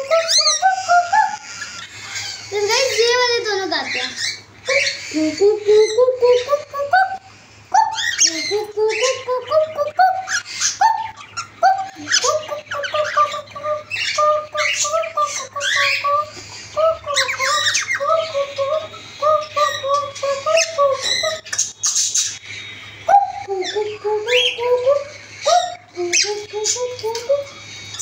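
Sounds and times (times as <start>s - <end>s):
cockatiels chirping and squawking: 0.0s - 28.0s.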